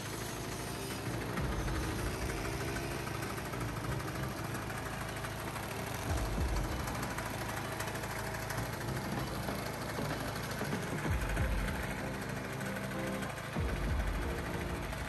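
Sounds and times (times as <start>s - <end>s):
small engine hum: 0.0s - 15.0s.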